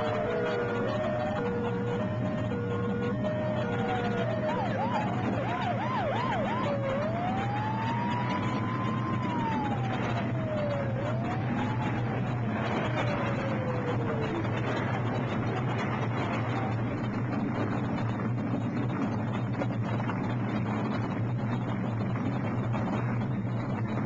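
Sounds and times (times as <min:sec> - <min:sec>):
emergency vehicle siren: 0:00.0 - 0:24.0.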